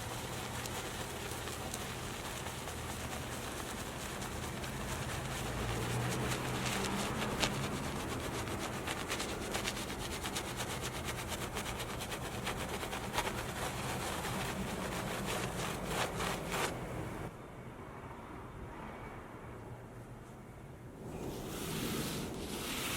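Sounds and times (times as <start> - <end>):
stiff brush scrubbing: 0.0 - 17.3, 21.0 - 22.9
low steady hum: 0.0 - 18.6.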